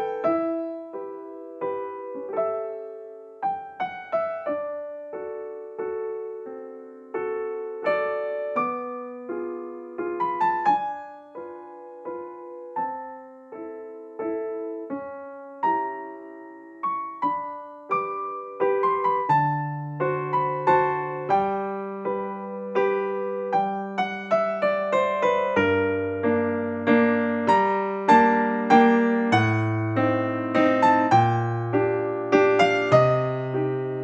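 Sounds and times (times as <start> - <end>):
soft solo piano: 0.0 - 34.0.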